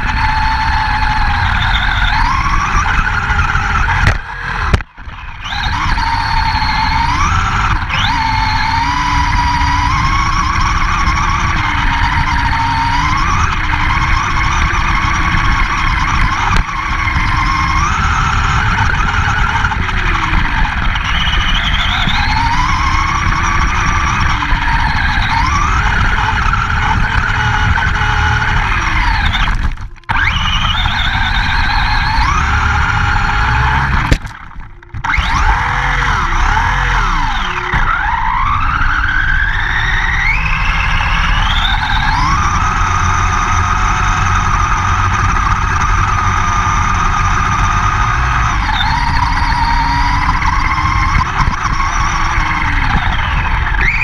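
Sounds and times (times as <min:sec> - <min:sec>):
toy truck motor whining: 0:00.0 - 0:54.0.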